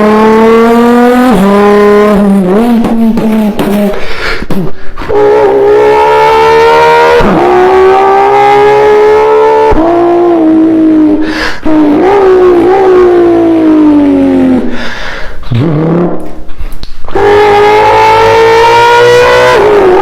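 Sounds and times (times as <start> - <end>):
man imitating car engine: 0.0 - 20.0.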